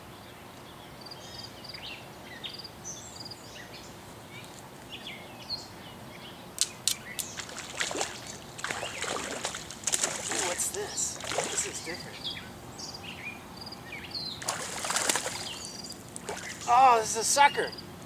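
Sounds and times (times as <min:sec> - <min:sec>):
birds chirping and trilling: 0:00.0 - 0:17.9.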